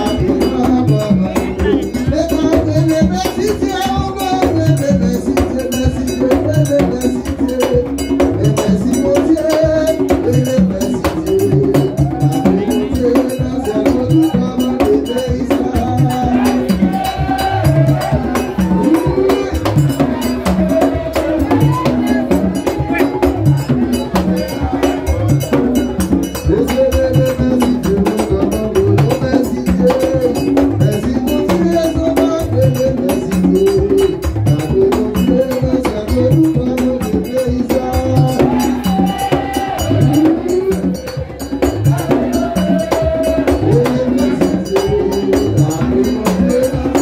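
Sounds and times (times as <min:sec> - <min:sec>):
man singing into microphone: 0:00.0 - 0:47.0
other voices singing: 0:00.0 - 0:47.0.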